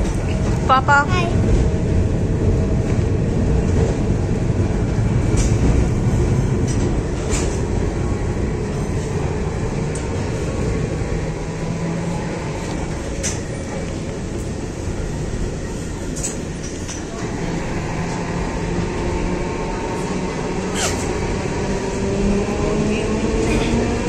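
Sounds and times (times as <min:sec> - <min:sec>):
tram rumbling: 0:00.0 - 0:24.0.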